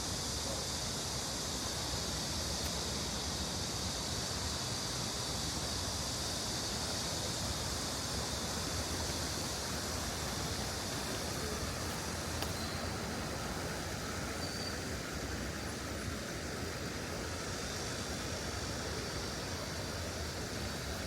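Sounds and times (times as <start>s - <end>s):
stream water rushing: 0.8s - 21.0s.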